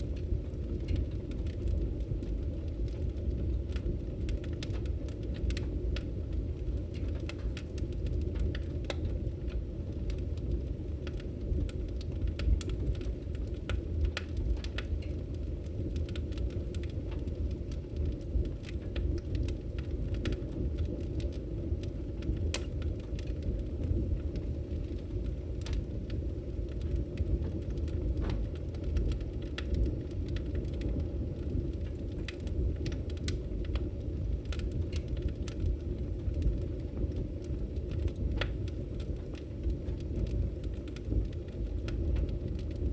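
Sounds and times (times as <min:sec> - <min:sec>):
fire crackling and popping: 0:00.0 - 0:42.9
fire flames rumbling: 0:00.0 - 0:42.9.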